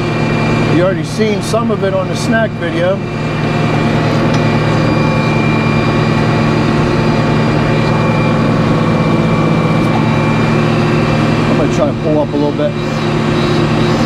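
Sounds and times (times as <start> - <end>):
high whine: 0.0 - 14.0
sawmill machinery humming: 0.0 - 14.0.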